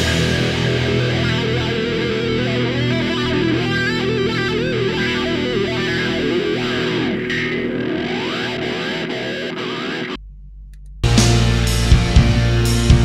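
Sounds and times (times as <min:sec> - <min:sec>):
distorted electric guitar melody: 0:00.0 - 0:10.2, 0:11.0 - 0:13.0.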